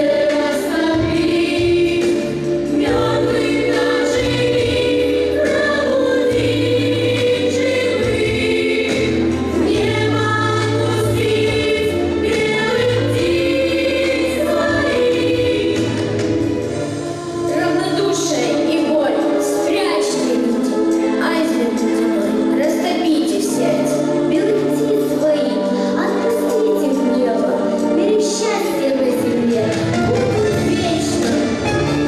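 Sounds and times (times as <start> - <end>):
voices singing in harmony: 0.0 - 32.0.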